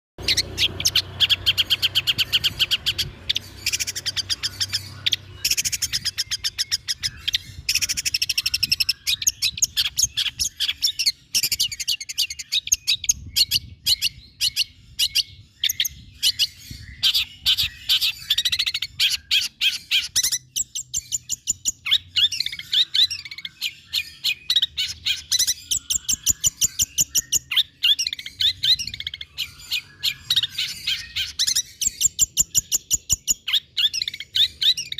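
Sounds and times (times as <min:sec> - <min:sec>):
bird singing trills: 0:00.2 - 0:34.9.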